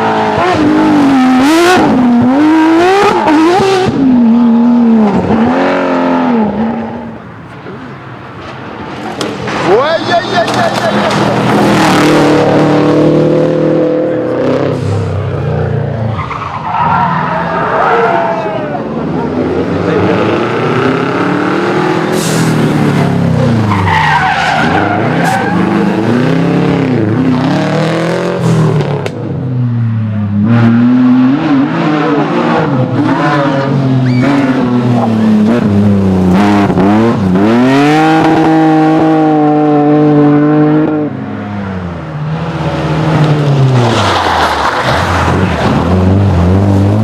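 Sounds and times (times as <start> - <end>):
rally car engines revving: 0.0 - 47.0
tyres skidding: 0.0 - 47.0.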